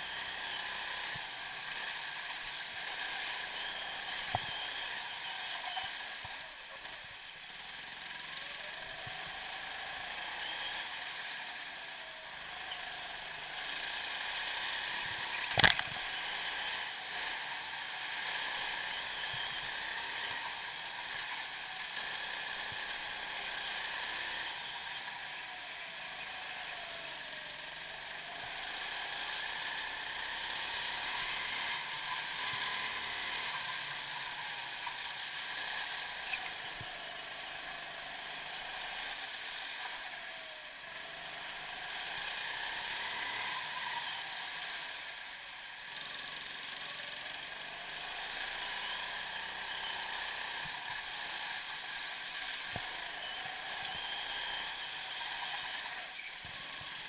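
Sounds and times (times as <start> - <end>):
go-kart motor running: 0.0 - 57.0.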